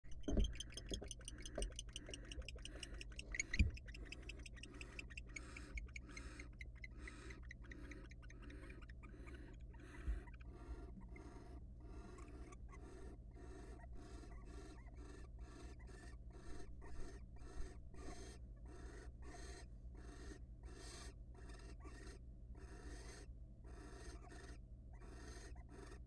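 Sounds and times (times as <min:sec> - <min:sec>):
owl clicking calls: 0:00.1 - 0:26.0
owl rasping calls: 0:00.2 - 0:26.0.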